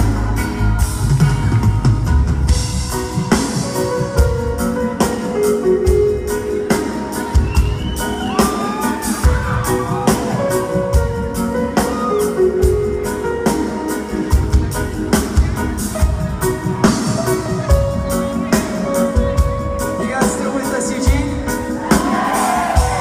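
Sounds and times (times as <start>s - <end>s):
reggae band playing live: 0.0s - 23.0s.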